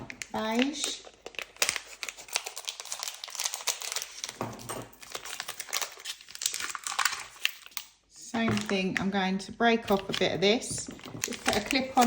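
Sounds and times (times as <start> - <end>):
plastic wrapping crinkling: 0.0 - 9.1, 9.9 - 12.0.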